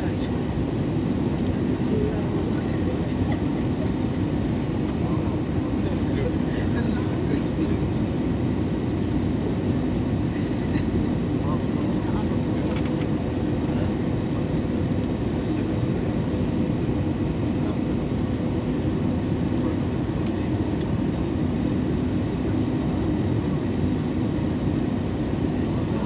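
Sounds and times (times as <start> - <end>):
aircraft engine noise: 0.0 - 26.0.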